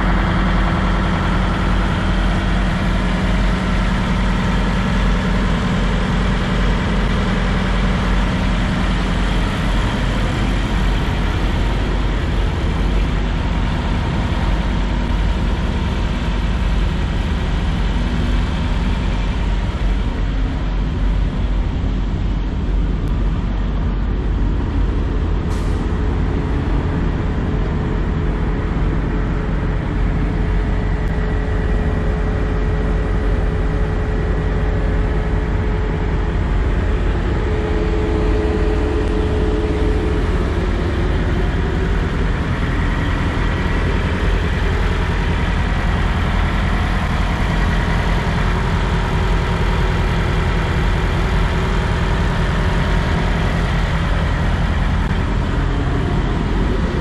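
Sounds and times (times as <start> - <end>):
diesel truck engines idling: 0.0 - 57.0
faint steady whine: 0.0 - 57.0.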